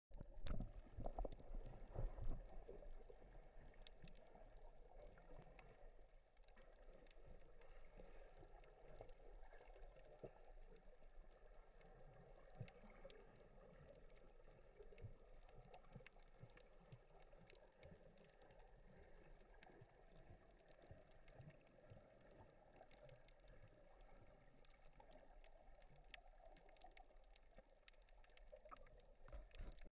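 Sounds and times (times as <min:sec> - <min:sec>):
small clicks underwater: 0:00.1 - 0:29.9
underwater wash: 0:00.1 - 0:29.9.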